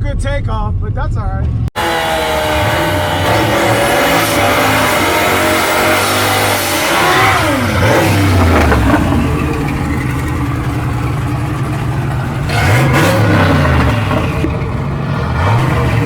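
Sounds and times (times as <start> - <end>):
car engine at full throttle: 1.8 - 16.0.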